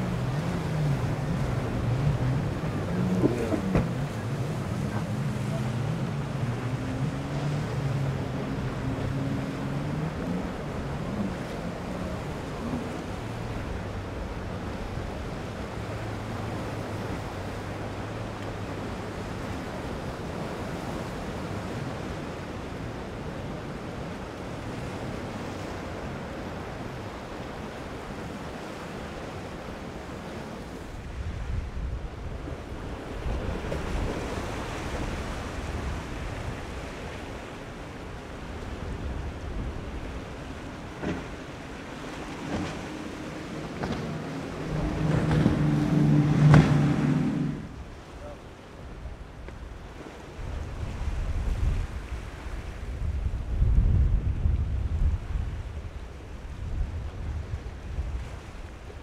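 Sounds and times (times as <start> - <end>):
wind on microphone: 0.0 - 21.9, 30.9 - 59.0
boat outboard engines: 0.0 - 59.0
waves breaking: 0.0 - 59.0.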